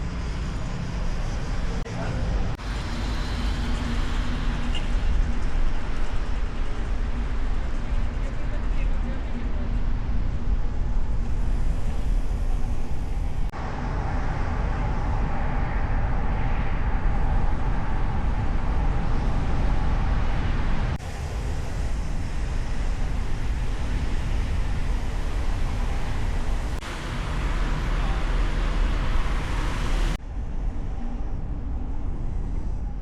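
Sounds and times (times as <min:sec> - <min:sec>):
road and traffic noise: 0:00.0 - 0:33.0.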